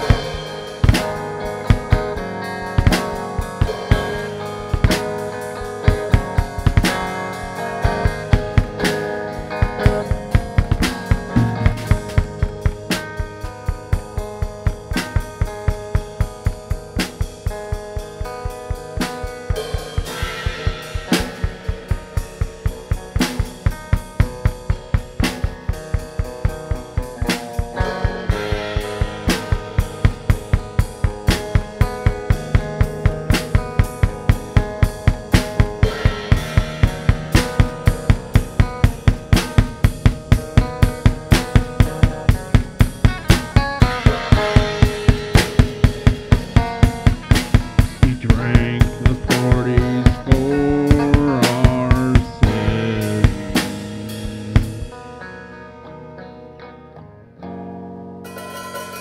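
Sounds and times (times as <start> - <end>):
drum kit fast beat: 0.0 - 55.0
guitar: 0.0 - 59.0.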